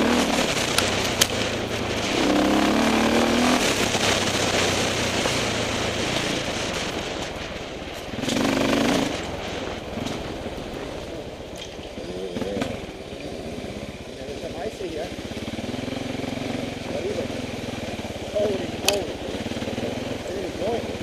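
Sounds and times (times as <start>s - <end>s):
dirt bike engine revving: 0.0s - 11.2s, 12.0s - 21.0s.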